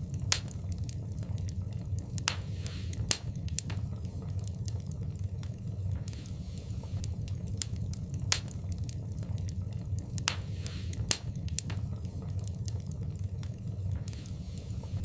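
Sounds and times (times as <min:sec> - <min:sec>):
low roar of flames: 0:00.0 - 0:15.0
wood fire crackling and popping: 0:00.0 - 0:15.0.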